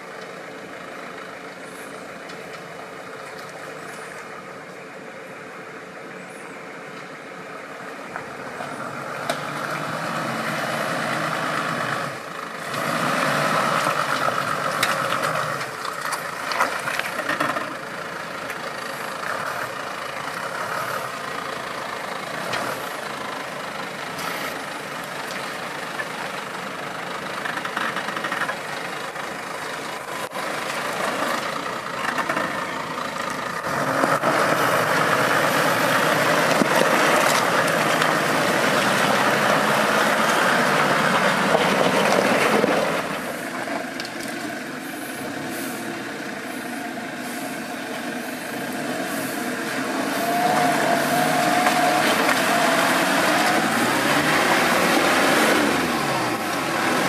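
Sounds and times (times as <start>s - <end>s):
off-road vehicle engine: 0.0s - 57.0s.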